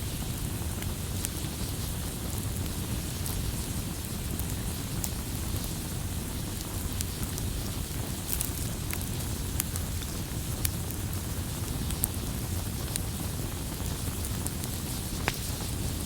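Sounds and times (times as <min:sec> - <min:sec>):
burning wood crackles and pops: 0:00.0 - 0:16.0
campfire rumble and hiss: 0:00.0 - 0:16.0.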